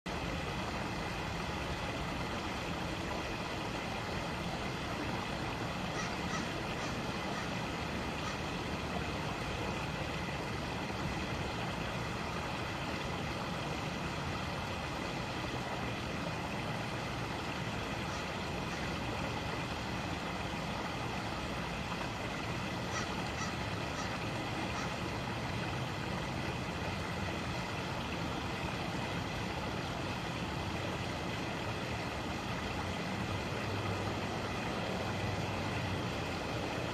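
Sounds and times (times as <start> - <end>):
creek water running over rocks: 0.1 - 36.9.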